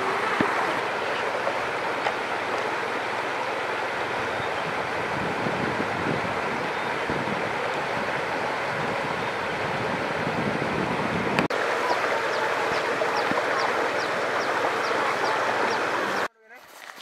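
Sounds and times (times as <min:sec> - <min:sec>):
flowing river water: 0:00.0 - 0:17.0
shallow stream: 0:00.0 - 0:17.0.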